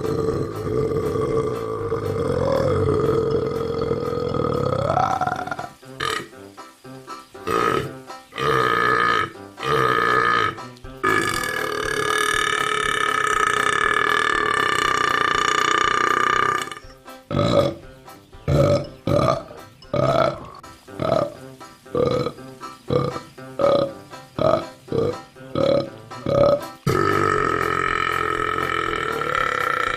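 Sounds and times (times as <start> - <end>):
burps: 0.0 - 6.4, 7.4 - 17.9, 18.5 - 29.9.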